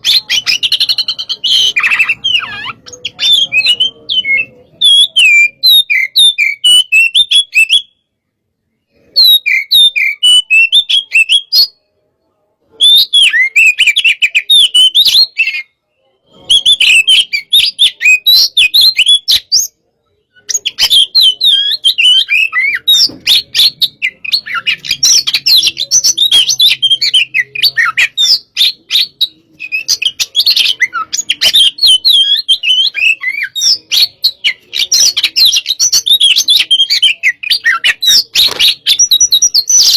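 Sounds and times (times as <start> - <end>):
bird singing chirps and whistles: 0.0 - 8.0, 8.9 - 11.8, 12.7 - 39.9.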